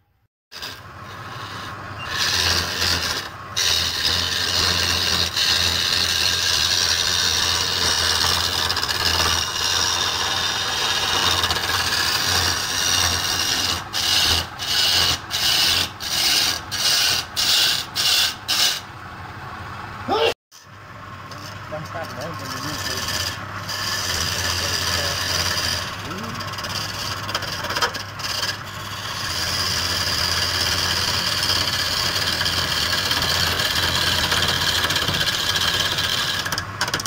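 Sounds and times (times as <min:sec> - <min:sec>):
chisel scraping spinning wood: 0:00.5 - 0:18.9, 0:21.2 - 0:37.0
low lathe hum: 0:00.6 - 0:20.1, 0:20.7 - 0:37.0.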